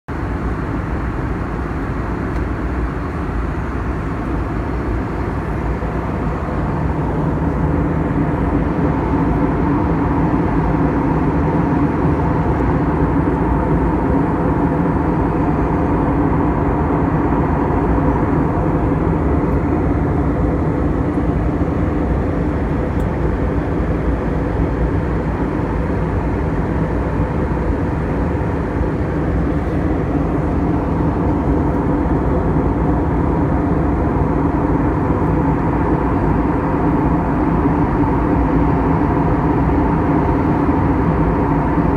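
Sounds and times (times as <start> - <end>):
airliner cabin engine noise: 0.1 - 41.9.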